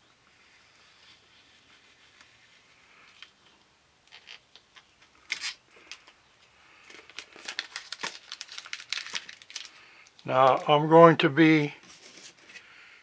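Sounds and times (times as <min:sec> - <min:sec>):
contact paper peeling and crackling: 0:00.3 - 0:10.8.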